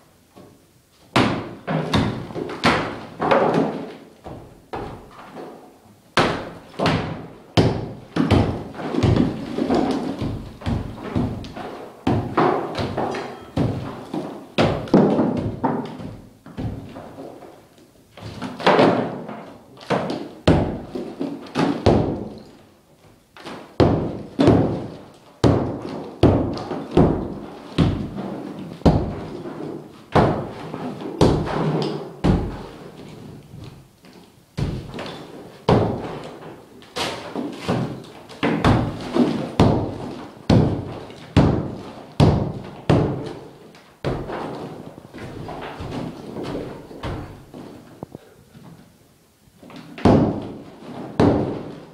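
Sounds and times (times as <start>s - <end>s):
hammer pounding masonry wall: 1.1s - 5.5s, 6.2s - 22.6s, 23.4s - 33.0s, 34.6s - 47.8s, 49.8s - 51.9s.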